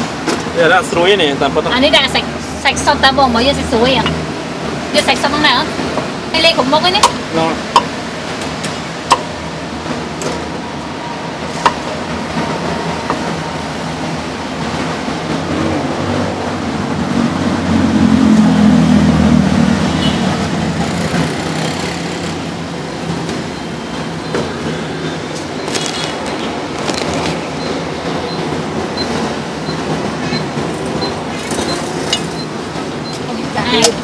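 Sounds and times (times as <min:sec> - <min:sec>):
street traffic rumble: 0:00.0 - 0:34.0.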